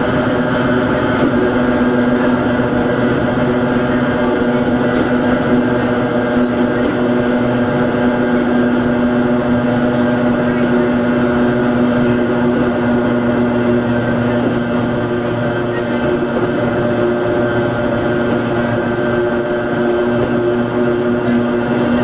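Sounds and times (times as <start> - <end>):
train bogies rumbling: 0.0 - 22.0.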